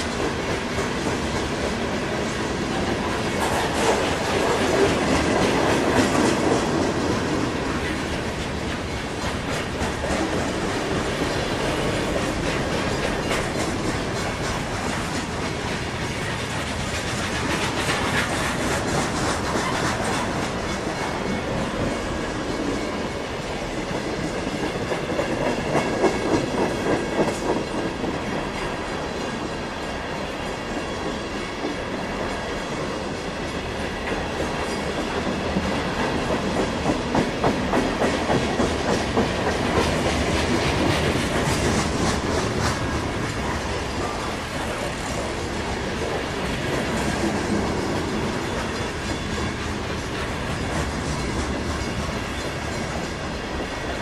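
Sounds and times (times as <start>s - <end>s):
freight cars rolling on rails: 0.0s - 54.0s.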